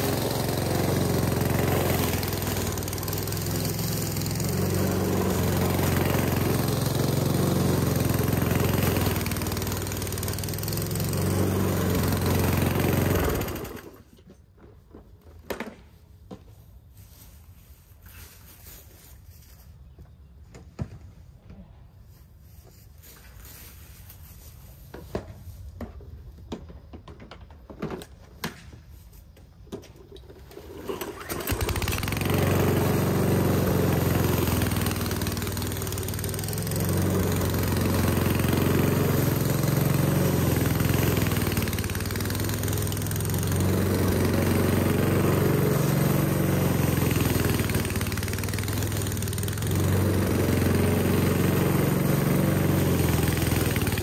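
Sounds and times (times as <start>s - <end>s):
lawn mower engine running: 0.0s - 19.5s, 29.7s - 54.0s.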